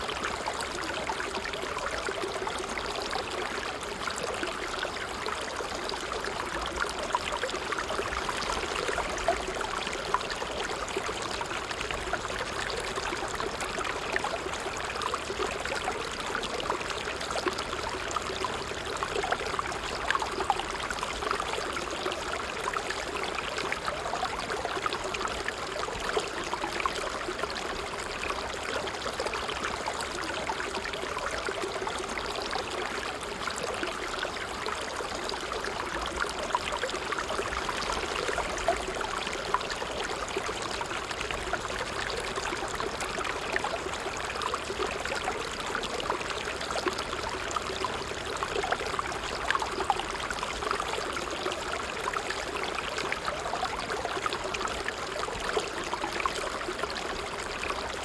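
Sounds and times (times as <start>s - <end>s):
water trickling over stones: 0.0s - 58.0s.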